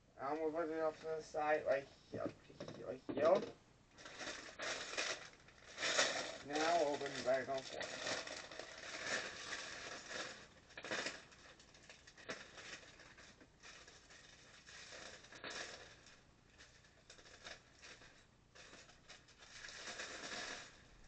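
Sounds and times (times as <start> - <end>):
plastic bag crinkling: 3.2 - 21.0.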